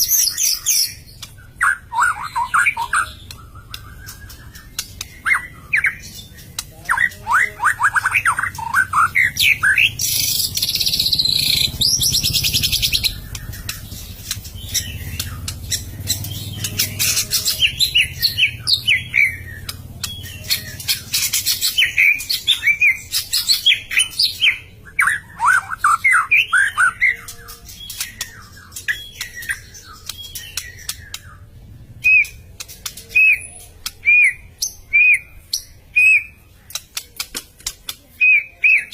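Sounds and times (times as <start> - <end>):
bird singing whistled notes: 0.0 - 36.4.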